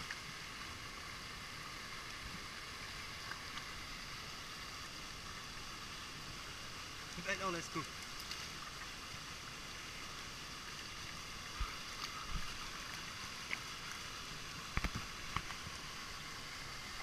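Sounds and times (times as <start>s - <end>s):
water running over rocks: 0.0s - 17.0s.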